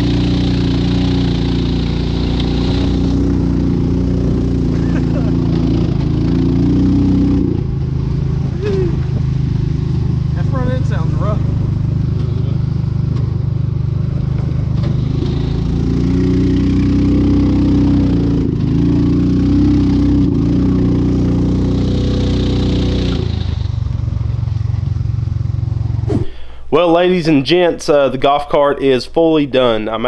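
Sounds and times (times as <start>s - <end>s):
small gas engine revving: 0.0s - 26.4s.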